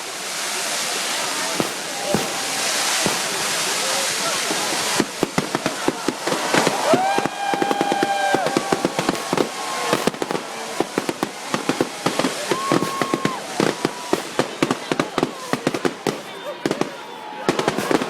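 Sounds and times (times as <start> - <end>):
whistling fireworks: 0.0 - 18.0
firecrackers banging: 0.5 - 18.0.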